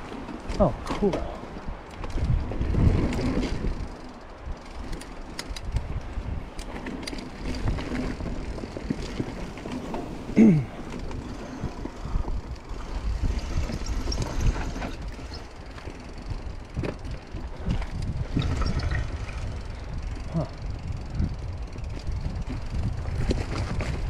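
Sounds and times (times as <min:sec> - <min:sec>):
bike rattling over bumps: 0:00.0 - 0:24.0
tyres rolling over dirt: 0:00.0 - 0:24.0.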